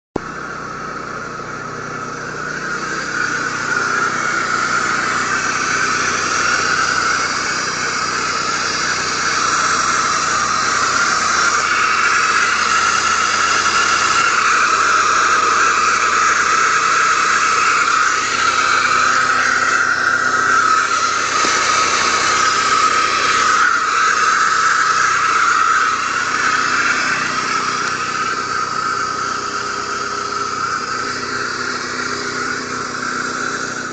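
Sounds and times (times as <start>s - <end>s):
car engine running: 0.2s - 33.9s
high-pitched pulley squeal: 0.2s - 33.9s.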